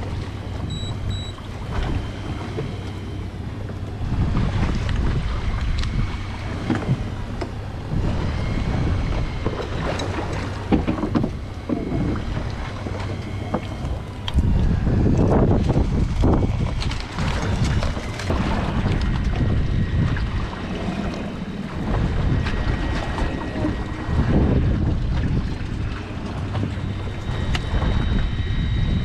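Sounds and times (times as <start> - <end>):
boat engine humming: 0.0 - 29.0
wind buffeting microphone: 0.0 - 29.0.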